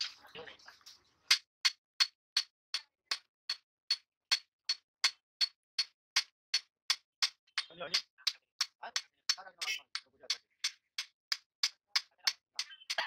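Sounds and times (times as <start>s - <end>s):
hammer striking steel on anvil: 1.3s - 13.0s.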